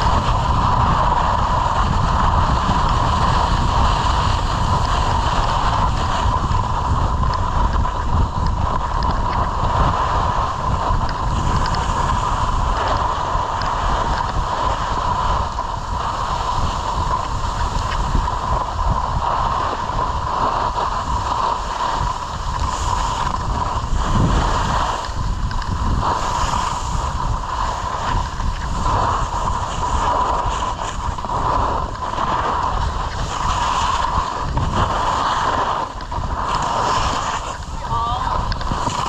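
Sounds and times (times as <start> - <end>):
skis sliding on snow: 0.0 - 39.0
wind buffeting microphone: 0.0 - 39.0.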